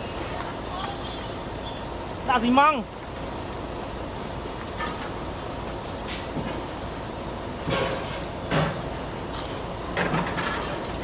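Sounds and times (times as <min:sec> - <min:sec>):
construction machinery running: 0:00.0 - 0:11.0.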